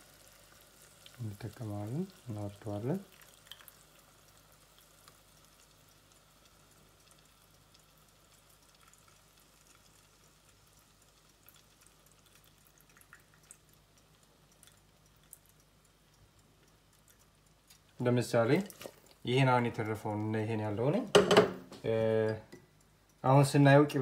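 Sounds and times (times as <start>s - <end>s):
faint drips: 0.0s - 20.9s.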